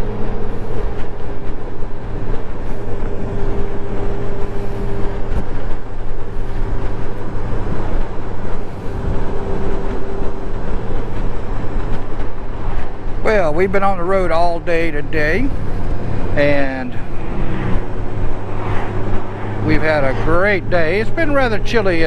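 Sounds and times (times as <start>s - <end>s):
motorcycle engine hum: 0.0s - 22.0s
wind and road noise: 0.0s - 22.0s.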